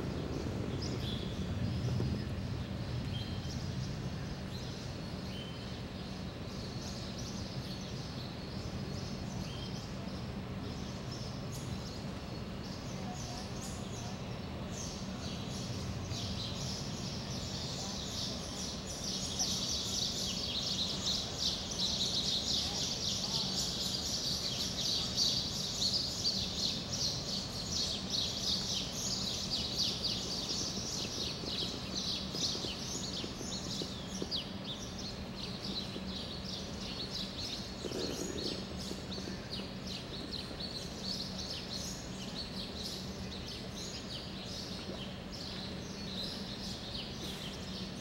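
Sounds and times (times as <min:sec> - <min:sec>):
small birds chirping: 0:00.0 - 0:48.0
steady background hum: 0:00.0 - 0:48.0.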